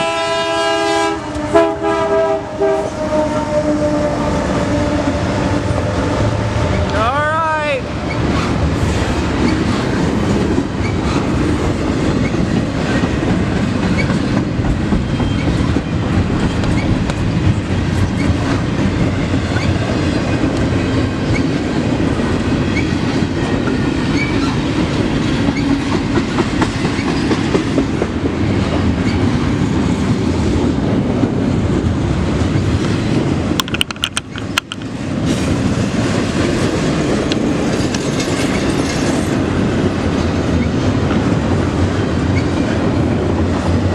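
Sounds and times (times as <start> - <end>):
freight train rumbling past: 0.0 - 43.9
wheels clacking over rail joints: 8.0 - 30.4, 31.2 - 43.9.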